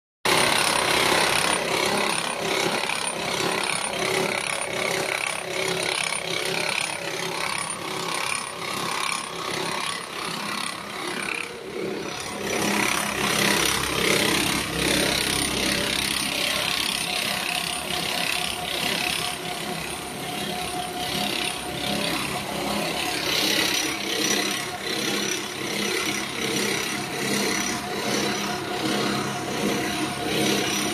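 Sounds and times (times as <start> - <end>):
machine with rhythmic rasping pulse: 0.3 - 30.9.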